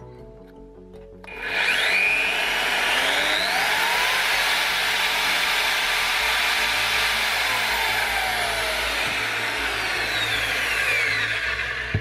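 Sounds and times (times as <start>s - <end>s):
paddle mixer motor whine: 1.3s - 12.0s.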